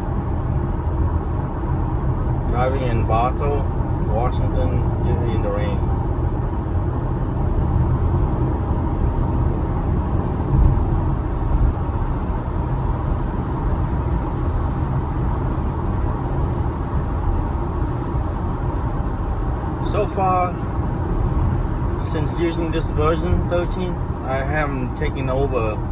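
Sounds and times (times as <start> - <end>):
road and tyre noise on wet road: 0.0 - 25.9.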